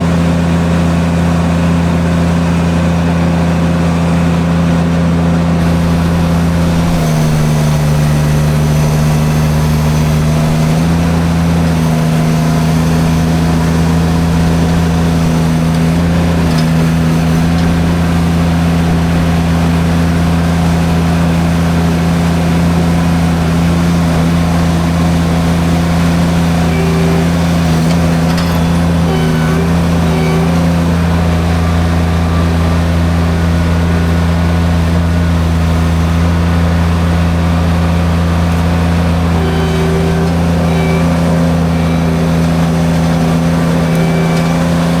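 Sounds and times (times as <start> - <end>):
skid steer engine drone: 0.0 - 45.0
drum mulcher: 5.6 - 45.0.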